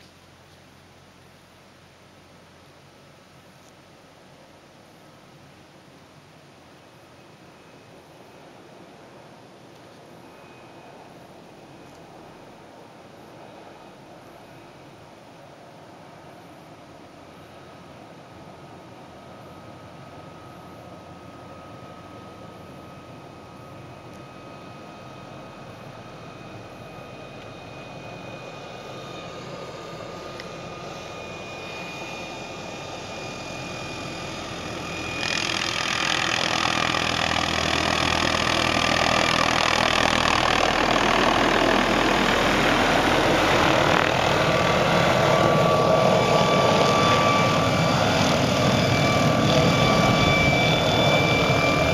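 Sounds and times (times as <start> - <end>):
helicopter turbine and rotor: 0.0 - 51.9.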